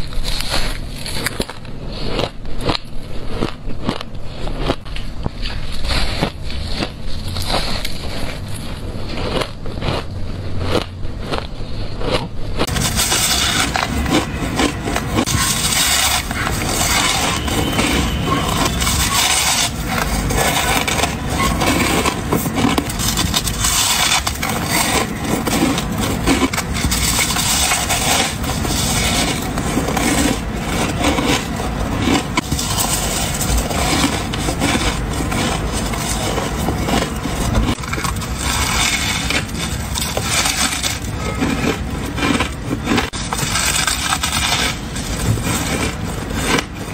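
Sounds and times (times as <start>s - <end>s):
ice crunching while chewed: 0.0s - 46.9s.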